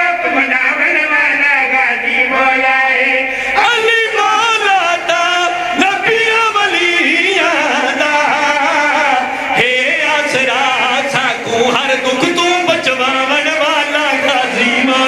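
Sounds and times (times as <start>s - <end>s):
men singing devotional song: 0.0s - 15.0s.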